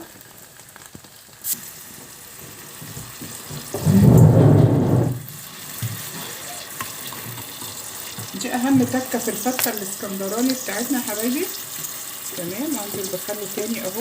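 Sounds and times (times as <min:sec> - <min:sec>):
vinegar sizzling in a hot pan: 0:00.0 - 0:03.8, 0:05.2 - 0:14.0.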